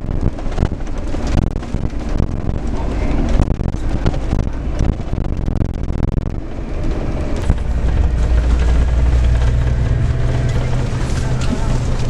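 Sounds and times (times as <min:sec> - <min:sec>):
bus engine and road noise: 0:00.0 - 0:12.0
deep steady drone: 0:00.0 - 0:12.0.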